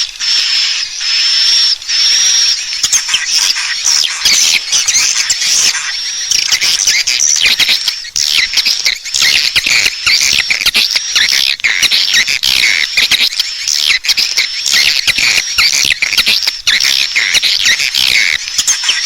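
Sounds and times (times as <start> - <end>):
swiftlets chirping and twittering: 0.0 - 19.0.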